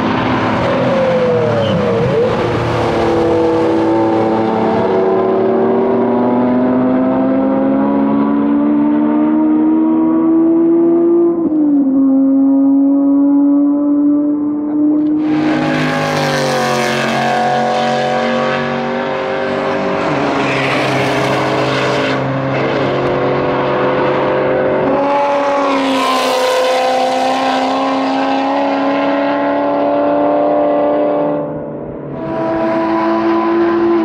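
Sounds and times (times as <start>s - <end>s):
race cars passing at speed: 0.0s - 34.0s.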